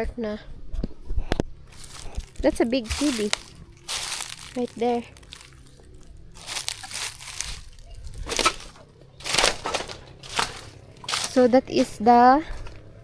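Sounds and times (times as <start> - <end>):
footsteps crunching on debris: 1.6 - 12.9.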